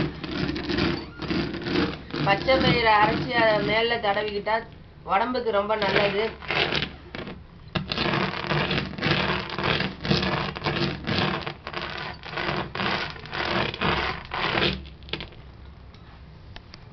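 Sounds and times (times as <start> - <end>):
stone roller crunching grains: 0.0 - 4.5, 5.7 - 15.4.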